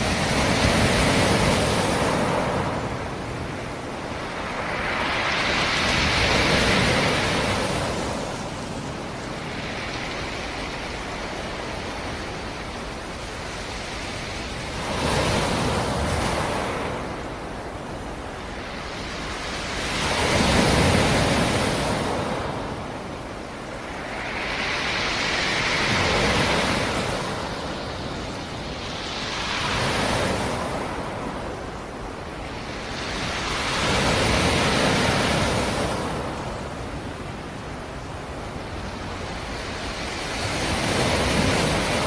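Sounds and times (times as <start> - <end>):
waves breaking on shore: 0.0 - 42.0.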